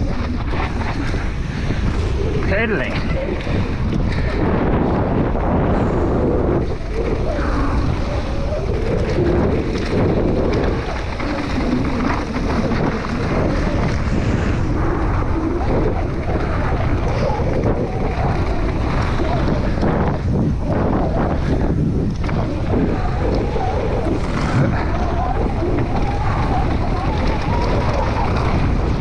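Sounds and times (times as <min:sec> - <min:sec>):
tyres rolling over loose gravel: 0:00.0 - 0:29.0
wind rushing over microphone: 0:00.0 - 0:29.0.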